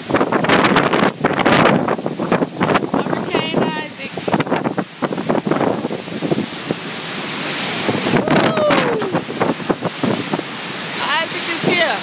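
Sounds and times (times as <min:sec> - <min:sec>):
strong wind gusting: 0:00.0 - 0:12.0.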